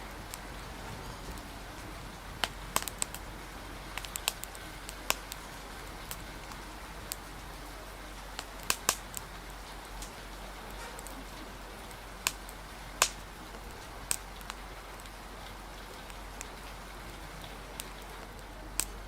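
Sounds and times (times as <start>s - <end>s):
rain hiss: 0.0s - 19.0s
wood fire crackling: 0.0s - 19.0s.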